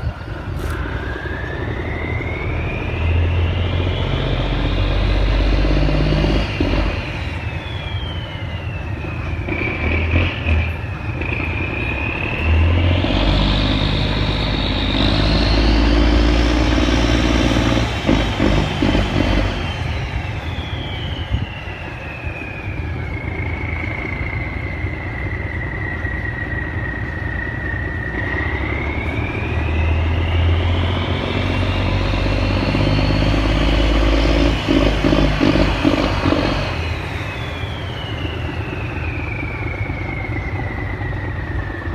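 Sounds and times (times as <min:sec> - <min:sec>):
diesel boat engine running: 0:00.0 - 0:41.9
high whistle: 0:00.0 - 0:41.9.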